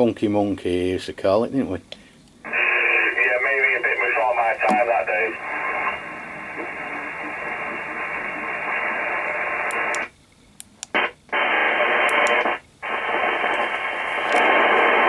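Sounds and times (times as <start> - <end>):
radio static hiss: 0.0 - 10.2, 10.9 - 15.0.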